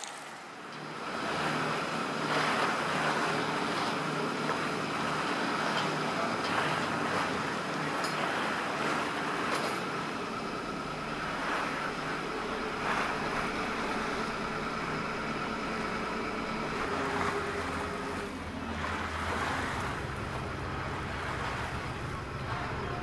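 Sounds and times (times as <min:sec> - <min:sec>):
boat engine hum: 0:00.0 - 0:23.0
water rushing and splashing: 0:00.0 - 0:23.0.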